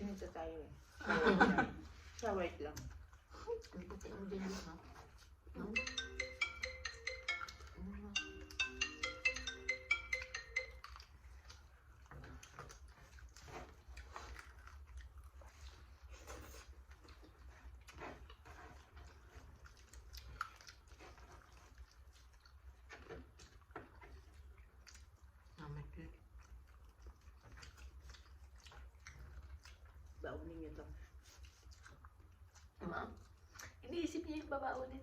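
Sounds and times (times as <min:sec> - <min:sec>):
people crunching and chewing: 0:00.8 - 0:35.0.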